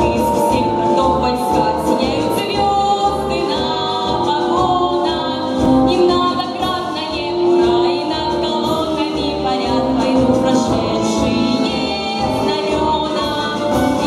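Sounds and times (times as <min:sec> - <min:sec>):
pop backing track with beat: 0:00.0 - 0:14.0.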